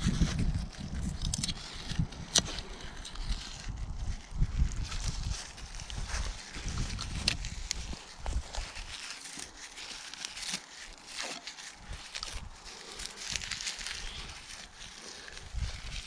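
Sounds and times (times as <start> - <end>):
dry leaves rustling: 0.0 - 16.0
twigs snapping: 0.1 - 16.0.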